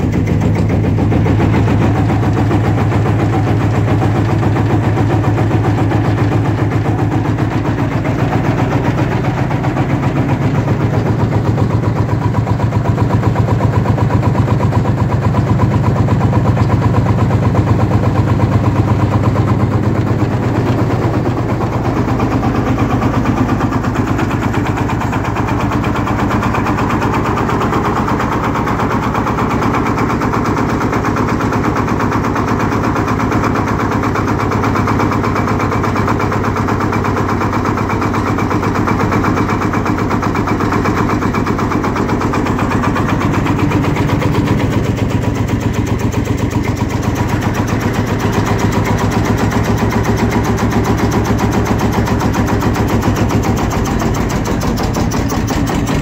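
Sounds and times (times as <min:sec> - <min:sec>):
tractor diesel engine ticking over: 0:00.0 - 0:56.0.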